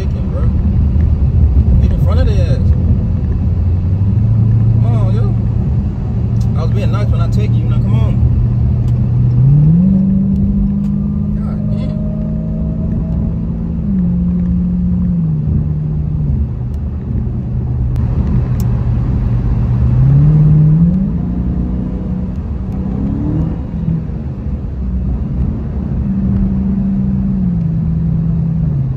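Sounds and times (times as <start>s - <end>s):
car engine drone from inside cabin: 0.0s - 28.9s.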